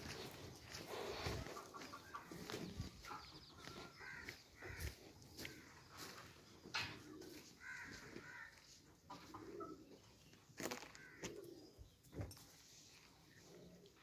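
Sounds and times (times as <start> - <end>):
footsteps on dry dirt and straw: 0.0 - 13.8
faint bird calls: 0.8 - 12.3.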